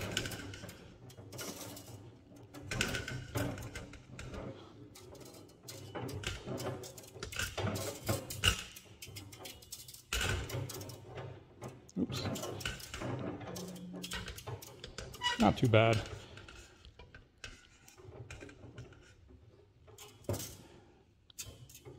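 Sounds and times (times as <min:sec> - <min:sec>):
metal tube rubbing and scraping: 0:00.0 - 0:21.9.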